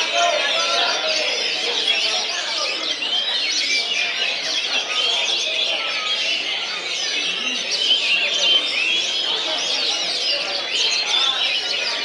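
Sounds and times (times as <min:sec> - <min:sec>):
songbirds chorus: 0:00.0 - 0:12.0.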